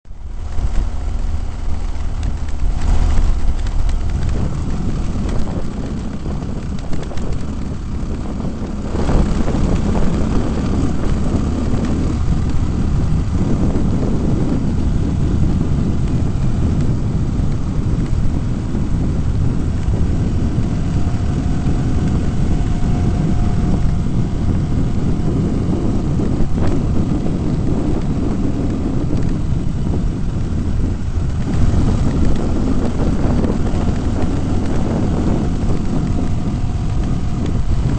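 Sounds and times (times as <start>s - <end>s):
off-road vehicle engine rumble: 0.0s - 37.9s.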